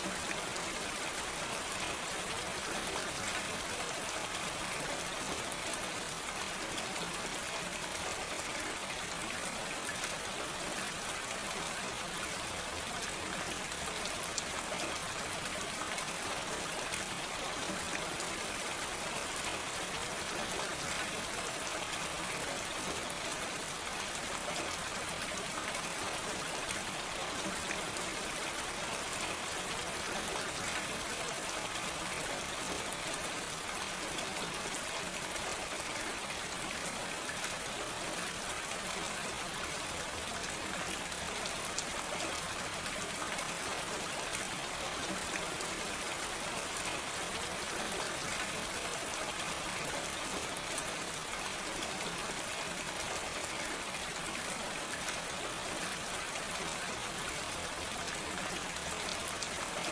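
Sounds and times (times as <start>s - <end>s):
gentle rain pattering: 0.0s - 59.9s.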